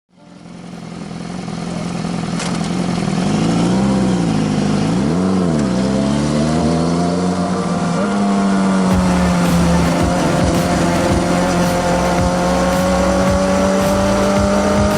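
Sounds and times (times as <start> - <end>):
motorcycle engine running: 0.2 - 14.9.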